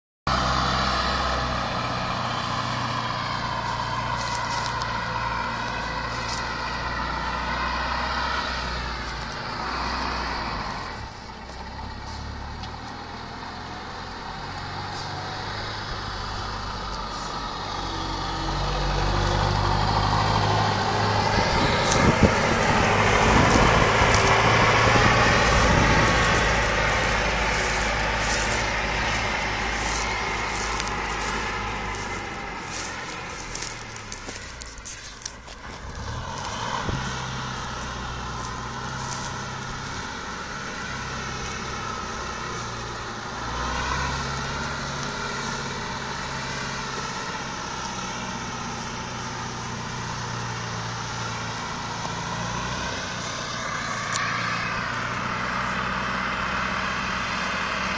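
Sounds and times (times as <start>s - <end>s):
armoured vehicle engine whine: 0.3s - 57.9s.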